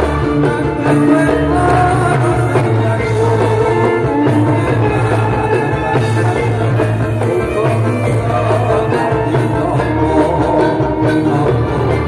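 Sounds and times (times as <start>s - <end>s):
gamelan music with singing: 0.0s - 12.0s.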